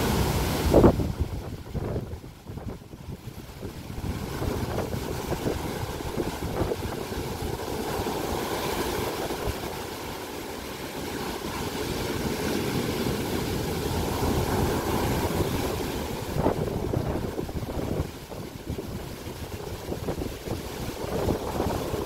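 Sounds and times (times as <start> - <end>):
surf breaking on beach: 0.0 - 22.0.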